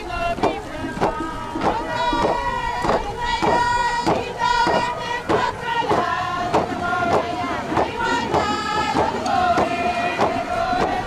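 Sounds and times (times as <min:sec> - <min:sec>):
steady drumbeat: 0:00.0 - 0:11.0
voices chanting in unison: 0:00.0 - 0:11.0.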